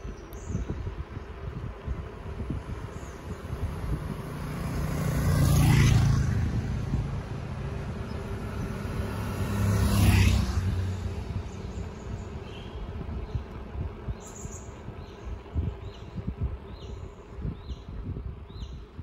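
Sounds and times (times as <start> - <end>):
wind rumble on microphone: 0.0 - 19.0
motor vehicles passing: 0.7 - 18.0.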